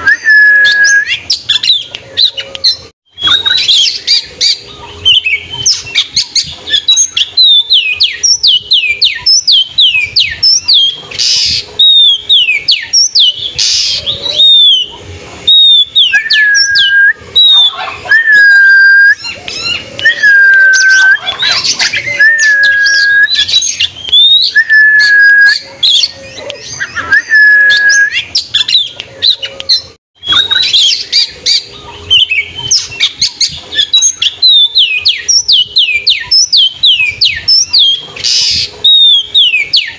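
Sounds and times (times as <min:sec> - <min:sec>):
bird whistles: 0:00.0 - 0:29.6, 0:30.2 - 0:39.9.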